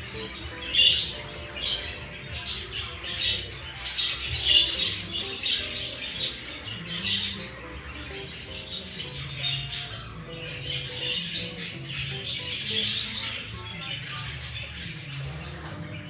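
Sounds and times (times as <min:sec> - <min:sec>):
birds chirping and squawking: 0:00.0 - 0:16.0
soft background music: 0:00.0 - 0:16.0.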